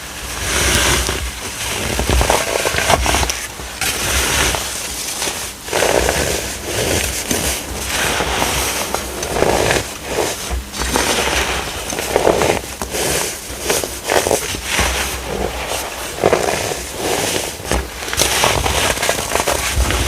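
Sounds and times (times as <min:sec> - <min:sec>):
baking soda crunching: 0:00.0 - 0:20.0.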